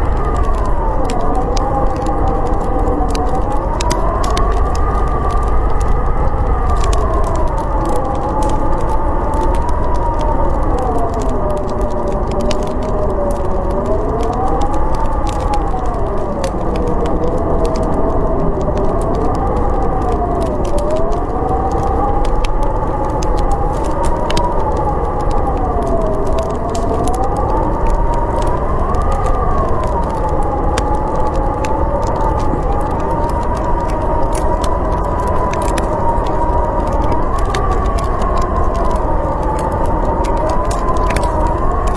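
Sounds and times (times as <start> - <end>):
howling blizzard wind: 0.0 - 41.9
wood fire crackling: 0.0 - 41.9.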